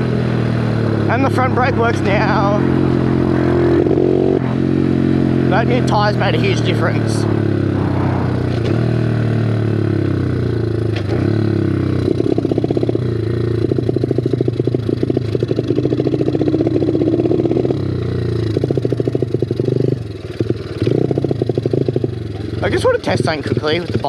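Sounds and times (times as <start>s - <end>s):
pit bike engine running: 0.0s - 24.0s.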